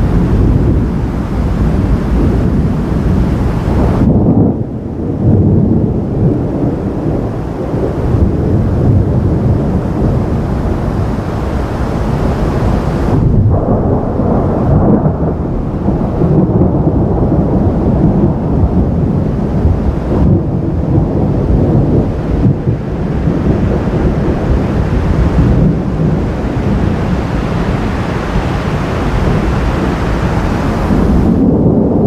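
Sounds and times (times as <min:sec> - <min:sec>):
low roll of thunder: 0:00.0 - 0:32.0.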